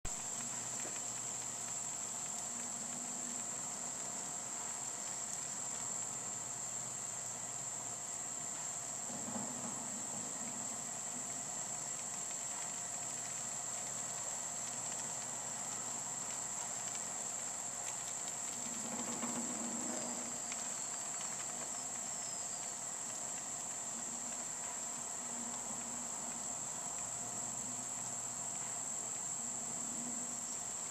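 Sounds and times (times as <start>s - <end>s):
faint steady hum: 0.0s - 30.9s
crickets trilling: 0.1s - 30.9s.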